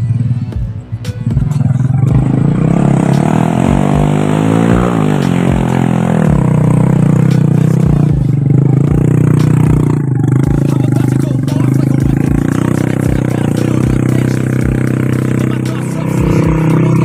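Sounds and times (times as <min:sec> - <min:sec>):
motorcycle engine straining: 0:00.0 - 0:17.0.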